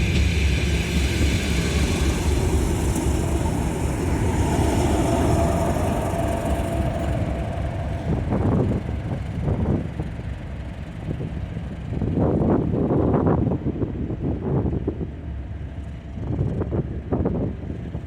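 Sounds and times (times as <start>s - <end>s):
wind buffeting microphone: 0.0s - 15.2s
diesel locomotive engines rumbling: 0.0s - 18.0s.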